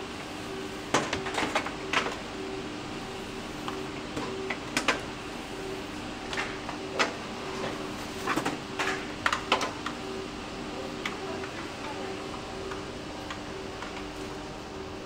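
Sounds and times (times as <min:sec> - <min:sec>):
ventilation system hum: 0:00.0 - 0:15.0.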